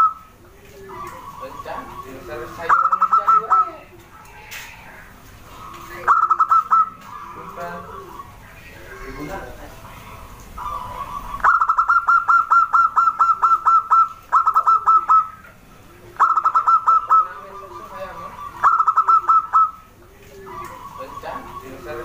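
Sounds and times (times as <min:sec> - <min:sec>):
dove staccato calls: 0:00.0 - 0:22.0.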